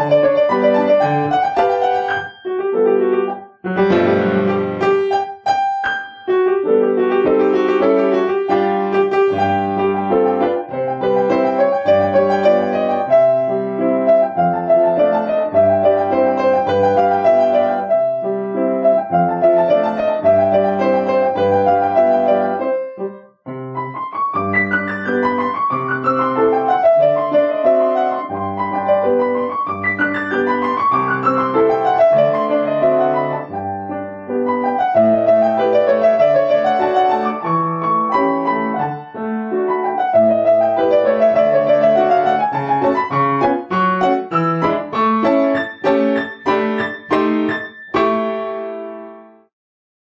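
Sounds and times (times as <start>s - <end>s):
piano music: 0.0s - 49.5s.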